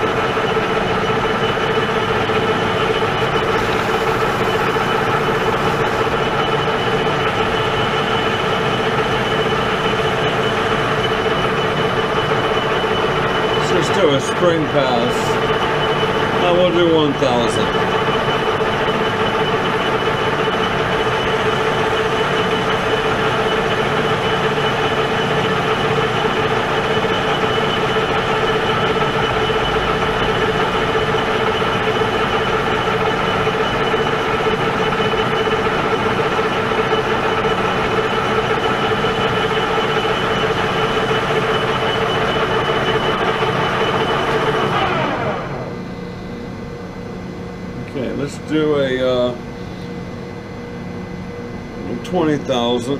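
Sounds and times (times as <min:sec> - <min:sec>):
lathe cutting steel: 0:00.0 - 0:45.8
lathe running quietly: 0:00.0 - 0:52.9.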